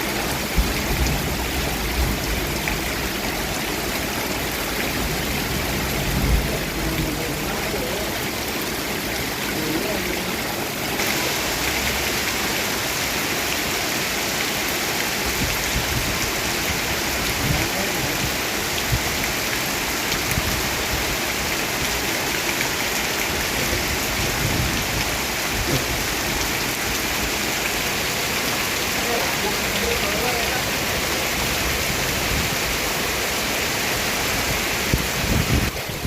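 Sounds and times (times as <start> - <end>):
heavy rain hiss: 0.0 - 36.0.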